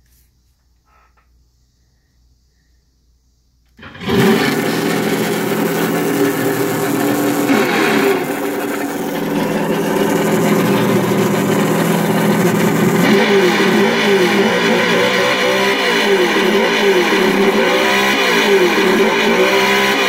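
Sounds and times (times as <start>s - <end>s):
simulated engine from speaker: 3.8s - 20.0s.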